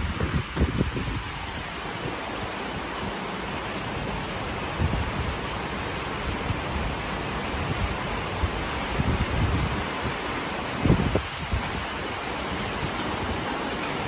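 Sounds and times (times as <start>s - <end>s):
heavy rain hissing: 0.0s - 14.0s
wind gusts on microphone: 0.0s - 14.0s.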